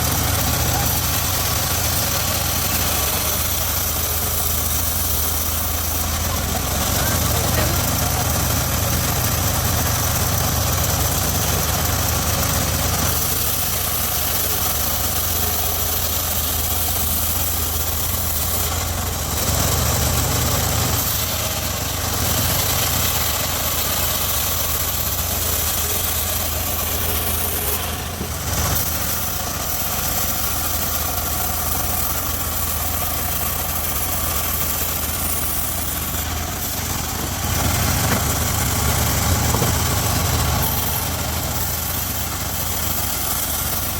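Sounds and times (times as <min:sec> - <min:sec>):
high saw hiss: 0:00.0 - 0:43.9
sawmill engine running: 0:00.0 - 0:43.9.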